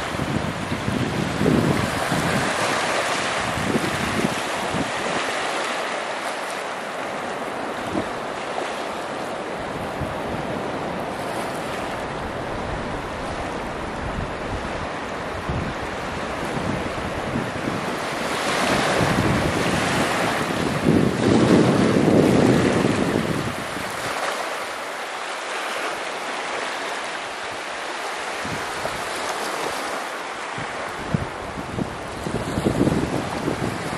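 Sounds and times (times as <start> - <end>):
wind buffeting microphone: 0.0 - 5.6, 7.5 - 24.4, 27.5 - 33.9
ocean surf washing on shore: 0.0 - 33.9.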